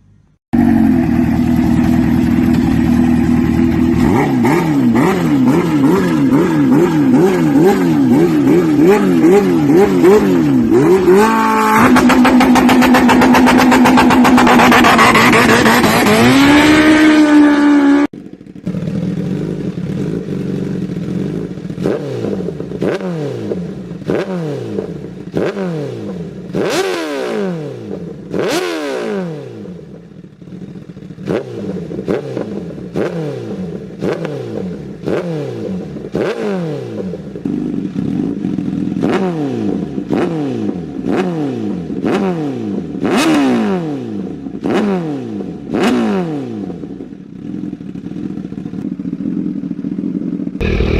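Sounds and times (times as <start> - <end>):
superbike engine revving: 0.6 - 50.9.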